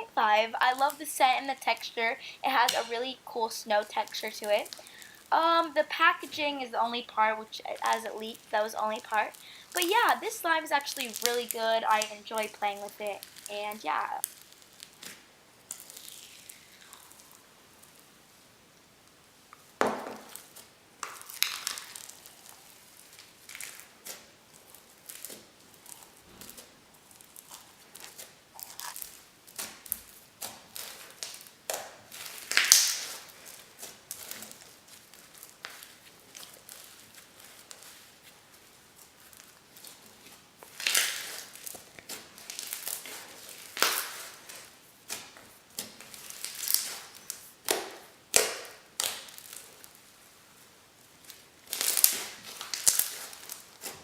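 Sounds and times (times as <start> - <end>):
crunchy slime crackling and popping: 0.0 - 54.0.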